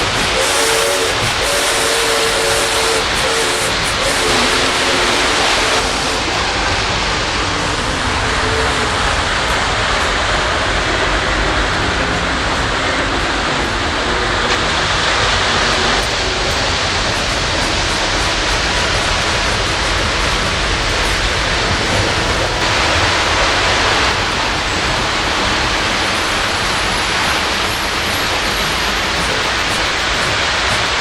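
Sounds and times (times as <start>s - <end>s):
model train running: 0.0s - 31.0s.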